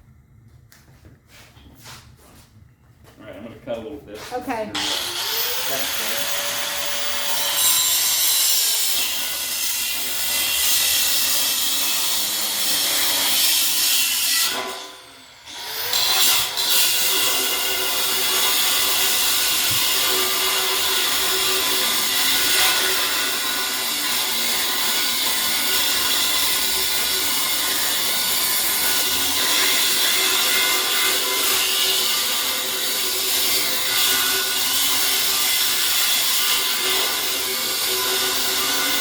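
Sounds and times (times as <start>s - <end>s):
cut-off blade grinding through steel: 4.7s - 39.0s.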